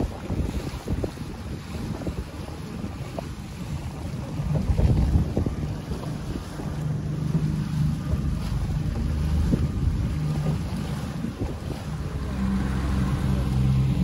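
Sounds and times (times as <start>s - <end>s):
outboard motor running: 0.0s - 14.0s
wind buffeting microphone: 0.0s - 14.0s.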